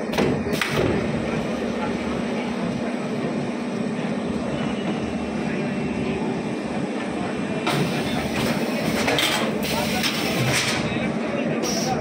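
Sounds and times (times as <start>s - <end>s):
machine humming and rattling: 0.0s - 12.0s.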